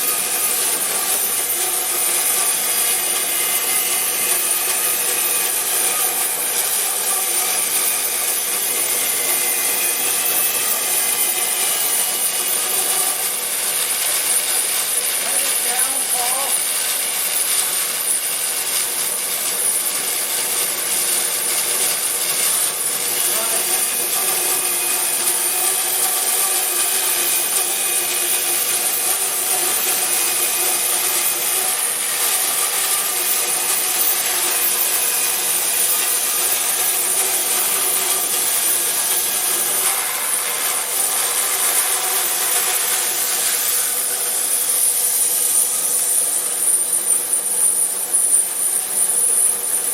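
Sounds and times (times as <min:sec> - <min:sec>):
band saw cutting wood: 0:00.0 - 0:49.9.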